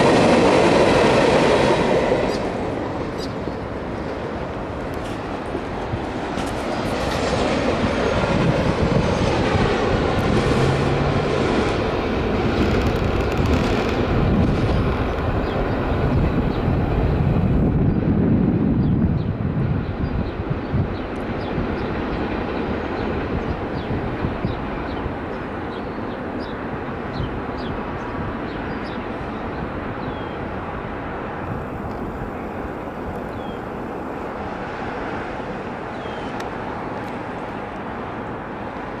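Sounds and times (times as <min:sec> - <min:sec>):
freight train rolling on rails: 0:00.0 - 0:39.0.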